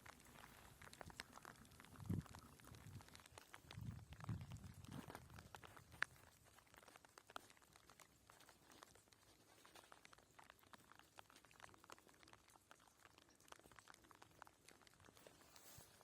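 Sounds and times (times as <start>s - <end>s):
faint ticks and crackles: 0.0s - 16.0s.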